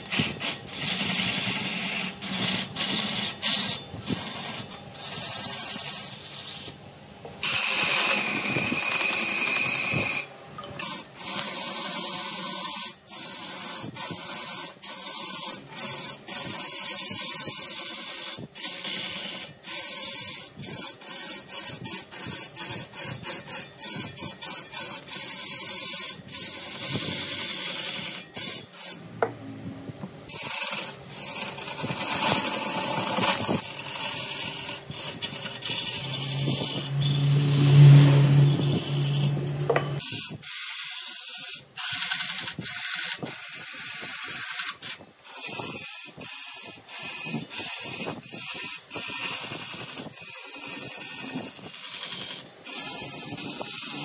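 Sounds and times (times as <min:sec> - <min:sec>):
lathe tools scraping wood: 0:00.0 - 0:29.3, 0:30.0 - 0:54.0.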